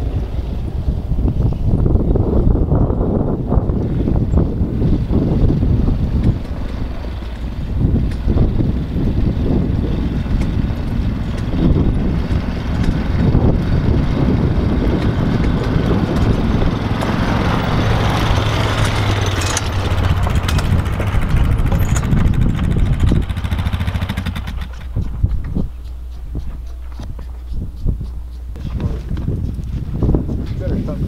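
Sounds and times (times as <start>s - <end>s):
quad bike engine running: 0.0s - 30.7s.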